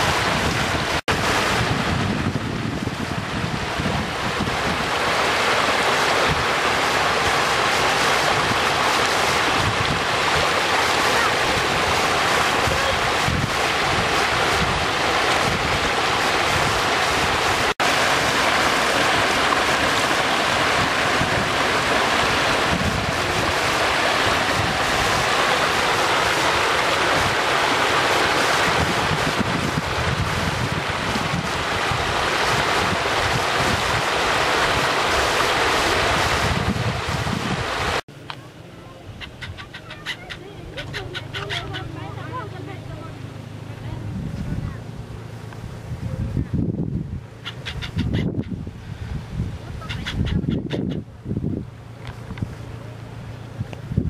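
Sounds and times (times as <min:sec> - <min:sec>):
wind buffeting microphone: 0:00.0 - 0:05.6, 0:09.4 - 0:38.0, 0:43.7 - 0:54.0
floodwater rushing over rocks: 0:00.0 - 0:54.0.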